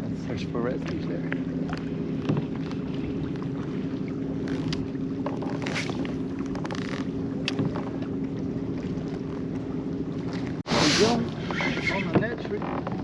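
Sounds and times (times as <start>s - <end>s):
small boat motor humming: 0.0s - 13.0s
water splashes: 0.0s - 13.0s.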